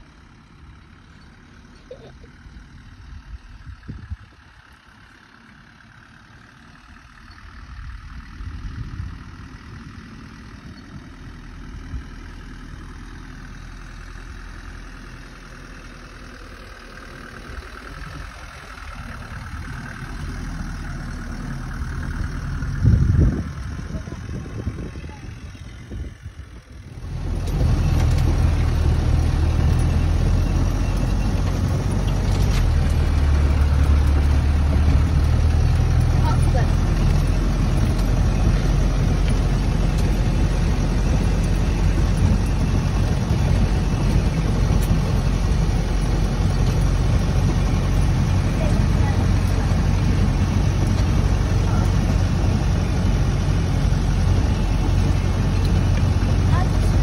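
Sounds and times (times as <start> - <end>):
engine heard from inside cab: 0.0 - 57.0
vehicle engine running: 0.0 - 57.0.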